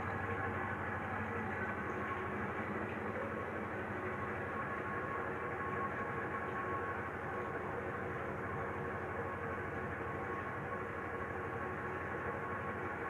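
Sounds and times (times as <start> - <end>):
faint even hum: 0.0 - 13.0
machinery droning: 0.0 - 13.0.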